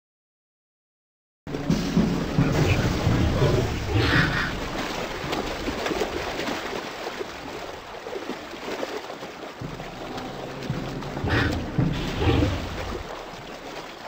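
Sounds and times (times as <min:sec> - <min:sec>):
heavy splashing river water: 0:01.5 - 0:14.0.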